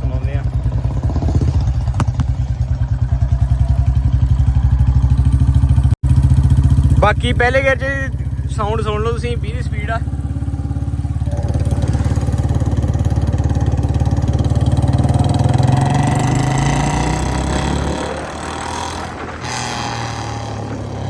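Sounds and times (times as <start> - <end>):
motorcycle engine thumping: 0.0 - 21.0.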